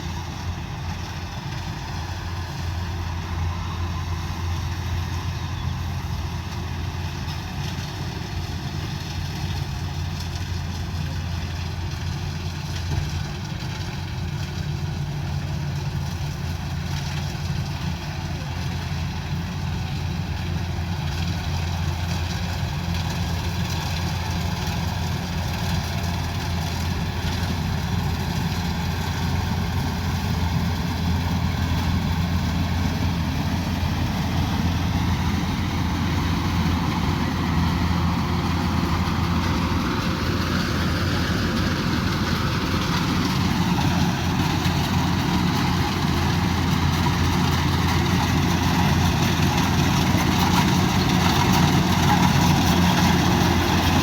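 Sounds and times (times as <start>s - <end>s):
combine harvester diesel engine humming: 0.0s - 54.0s.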